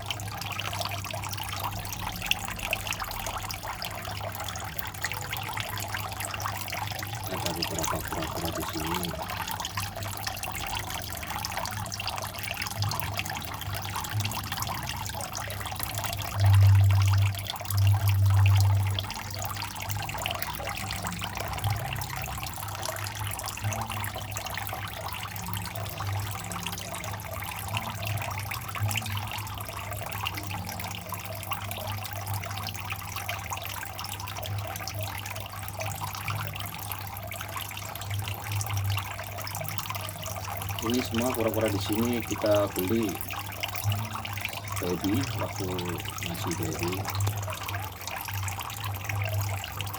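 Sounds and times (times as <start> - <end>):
low pump hum: 0.0 - 49.9
water trickling into pond: 0.0 - 49.9.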